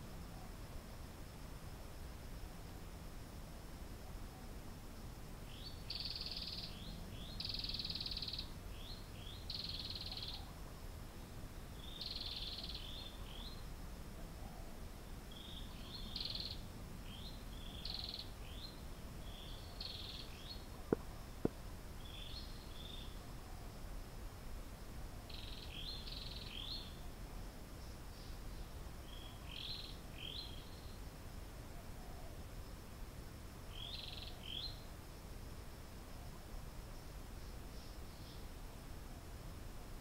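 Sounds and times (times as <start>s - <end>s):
low steady background noise: 0.0s - 40.0s.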